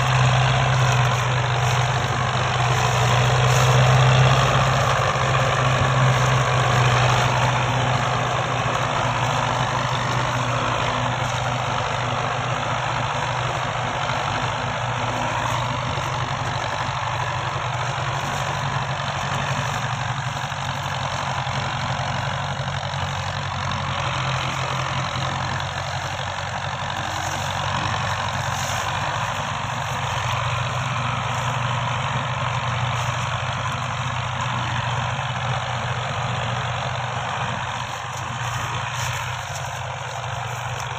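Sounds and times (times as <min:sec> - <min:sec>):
tractor diesel engines running: 0:00.0 - 0:40.9.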